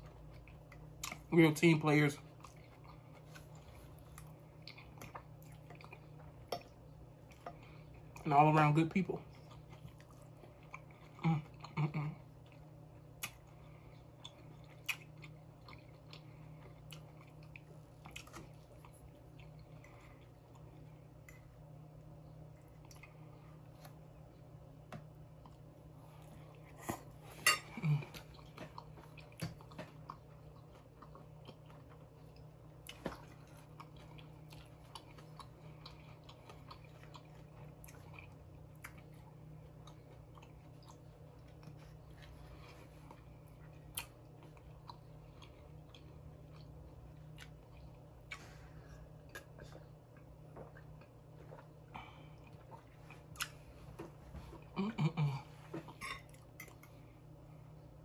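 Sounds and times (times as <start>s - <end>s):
person chewing food: 0.0s - 1.3s, 2.2s - 8.2s, 9.2s - 58.0s
faint low hum: 0.0s - 58.0s.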